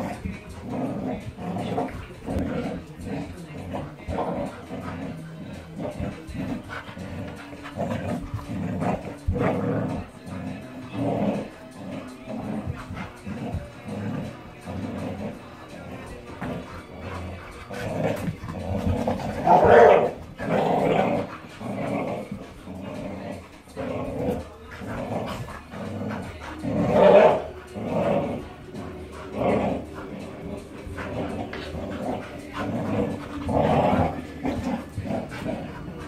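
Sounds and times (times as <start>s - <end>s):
dogs growling in play: 0.0s - 36.0s.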